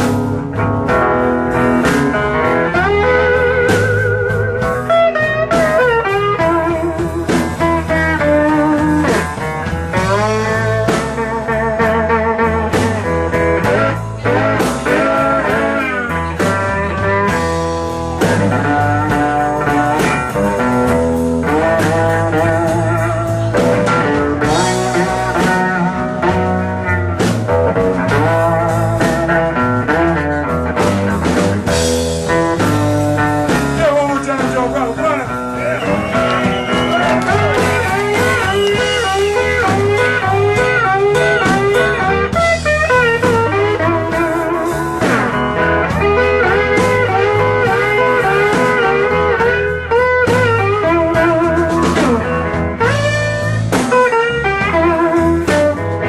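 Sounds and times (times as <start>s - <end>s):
bass and drums: 0.0s - 56.0s
lead guitar solo: 0.0s - 56.0s.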